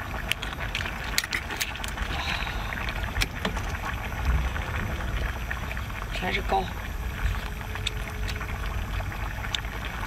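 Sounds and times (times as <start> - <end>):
low rumble: 1.9 - 10.0.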